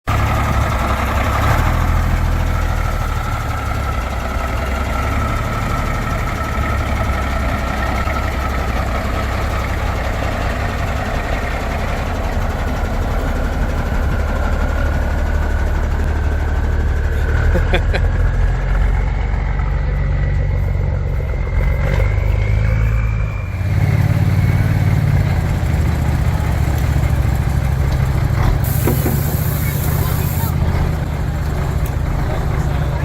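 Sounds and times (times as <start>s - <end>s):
diesel truck engine rumbling: 0.0s - 33.0s
steady high engine tone: 2.6s - 33.0s.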